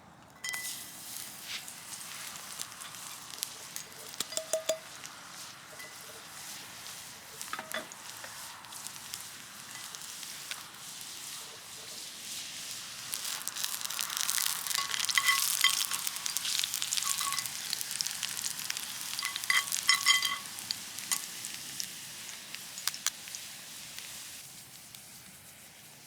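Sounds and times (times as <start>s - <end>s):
food sizzling in a pan: 0.4s - 26.0s.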